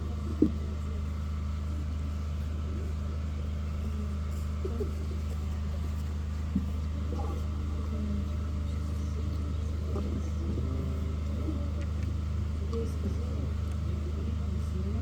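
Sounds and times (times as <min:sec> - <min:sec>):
faint distant voices: 0:00.0 - 0:15.0
low electrical hum: 0:00.0 - 0:15.0.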